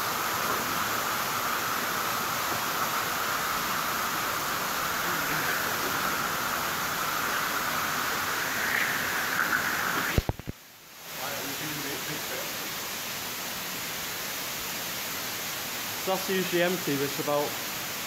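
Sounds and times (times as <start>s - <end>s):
waterfall rushing: 0.0s - 10.4s, 11.0s - 18.0s
floodwater running: 0.0s - 18.0s.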